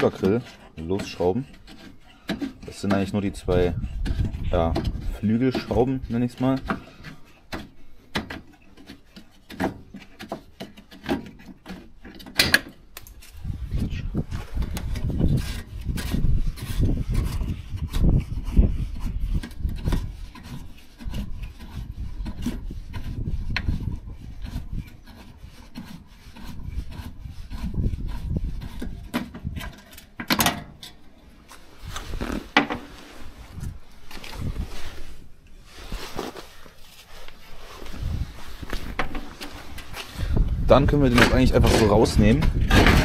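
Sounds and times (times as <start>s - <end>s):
rubbing and scraping handling noise: 0.0s - 43.0s.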